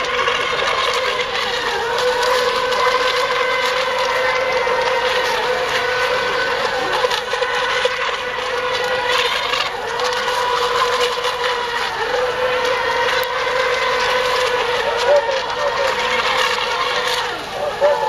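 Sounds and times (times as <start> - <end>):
electric model boats whining: 0.0 - 18.0.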